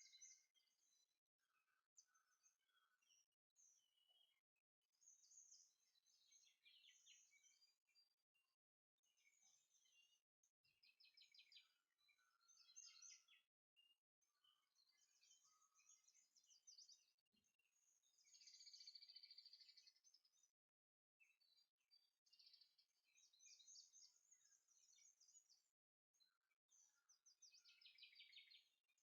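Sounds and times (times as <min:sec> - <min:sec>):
songbird chirps and trills: 0:00.0 - 0:20.6, 0:21.2 - 0:29.0.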